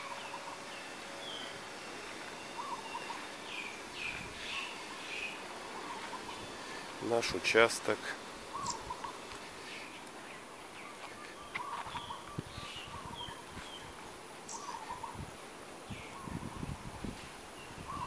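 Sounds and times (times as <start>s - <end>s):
high falling bird calls: 0.0s - 7.4s, 8.4s - 15.2s, 15.8s - 16.7s
birds chirping: 0.0s - 15.2s, 15.8s - 16.7s
faint outdoor hiss: 0.0s - 18.0s.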